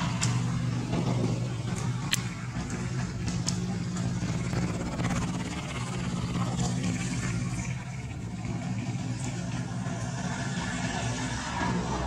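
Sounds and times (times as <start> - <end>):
motor humming: 0.0 - 11.2.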